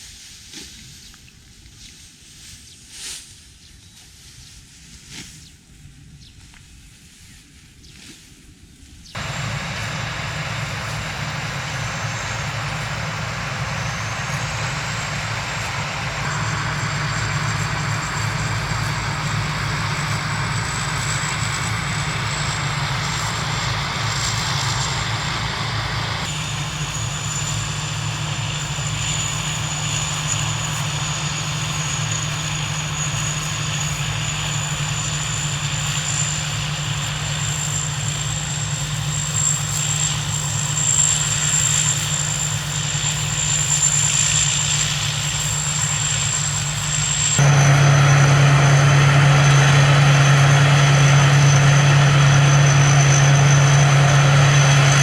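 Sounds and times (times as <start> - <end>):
large engine droning: 9.2 - 55.0
thin high whine: 9.2 - 55.0.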